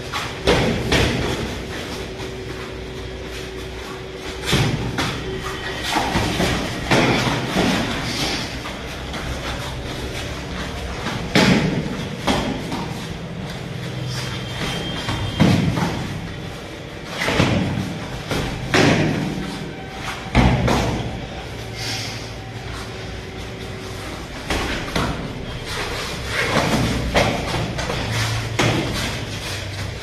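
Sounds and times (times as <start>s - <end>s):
feet hitting foam mats: 0.0s - 21.6s, 22.6s - 30.0s
padded blows thudding: 0.2s - 3.2s, 4.0s - 21.4s, 24.2s - 30.0s.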